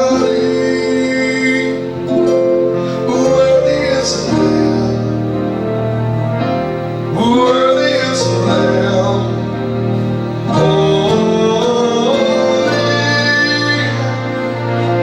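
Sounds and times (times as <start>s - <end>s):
person singing: 0.0s - 6.0s, 7.0s - 15.0s
sustained instrumental chords: 0.0s - 15.0s.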